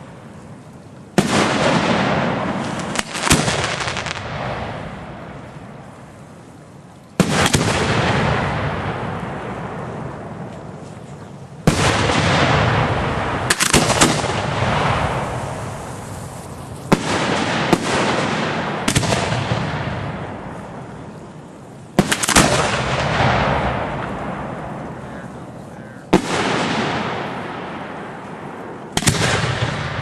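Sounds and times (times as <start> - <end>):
firework shells exploding: 1.1 - 6.0, 7.2 - 30.0.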